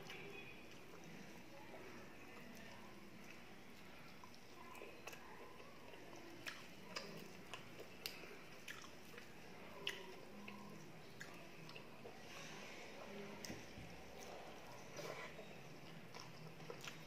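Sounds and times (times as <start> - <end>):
person chewing food: 2.4 - 12.8, 13.4 - 17.0.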